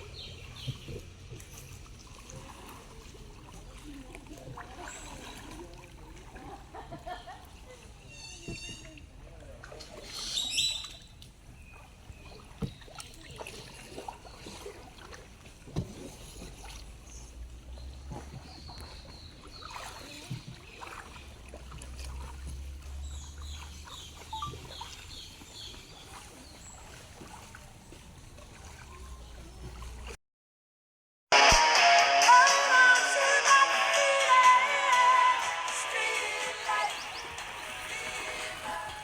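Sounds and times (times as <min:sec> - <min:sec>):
river water lapping: 0:00.0 - 0:30.2, 0:32.2 - 0:39.0.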